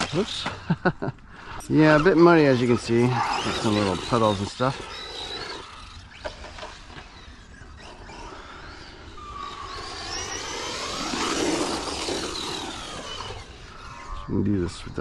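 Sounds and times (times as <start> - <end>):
rc truck motor whine: 0.0 - 0.8, 1.4 - 14.6.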